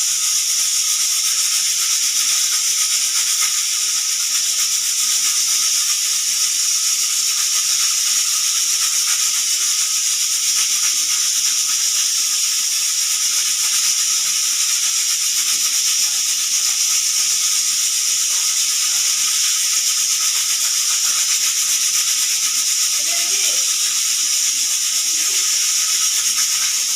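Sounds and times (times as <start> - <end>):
pressure cooker whistle hissing: 0.0 - 26.9.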